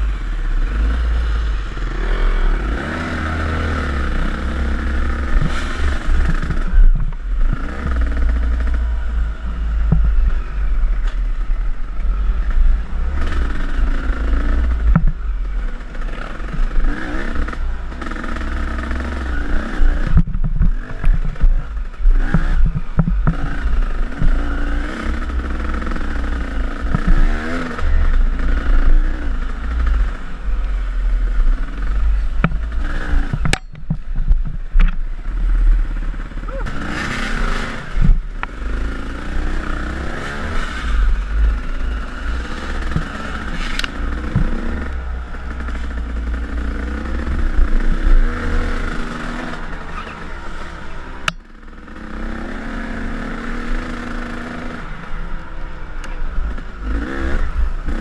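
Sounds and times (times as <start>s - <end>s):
dirt bike engine revving: 0.0s - 34.2s, 34.8s - 55.8s, 56.4s - 58.0s.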